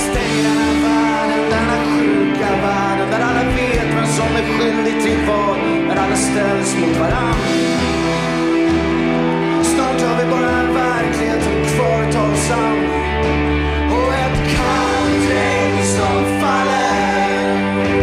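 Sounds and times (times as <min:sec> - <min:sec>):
man singing: 0:00.0 - 0:08.6, 0:09.3 - 0:18.0
electric guitar: 0:00.0 - 0:18.0
live rock band playing: 0:00.0 - 0:18.0.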